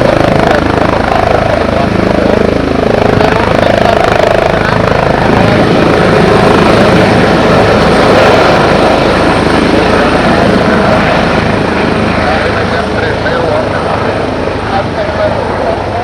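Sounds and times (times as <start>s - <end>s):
helicopter rotor chopping: 0.0s - 16.0s
turbine engine whine: 0.0s - 16.0s.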